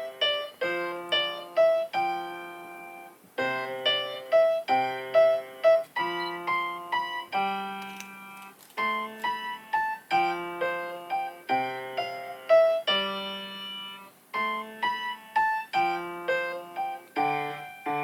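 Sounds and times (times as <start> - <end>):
piano playing slow melody: 0.0 - 18.0.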